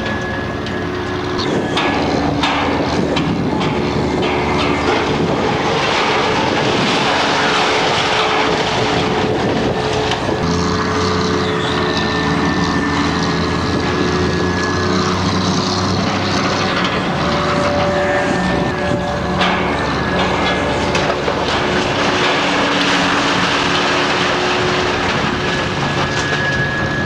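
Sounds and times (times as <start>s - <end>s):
heavy machinery engine running: 0.0s - 27.0s
noisy clatter: 0.0s - 27.0s.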